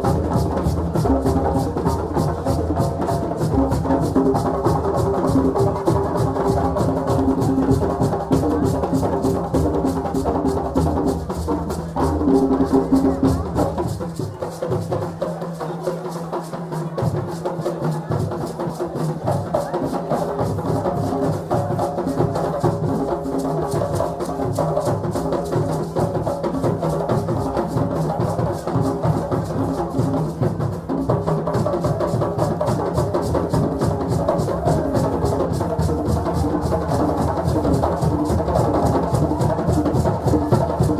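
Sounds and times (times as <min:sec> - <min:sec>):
group drumming: 0:00.0 - 0:15.4, 0:16.8 - 0:40.9.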